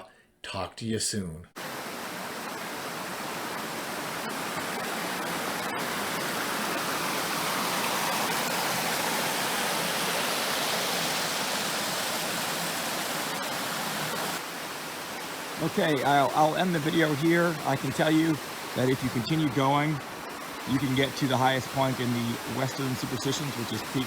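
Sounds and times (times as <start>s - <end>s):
waterfall rushing: 1.6s - 24.0s.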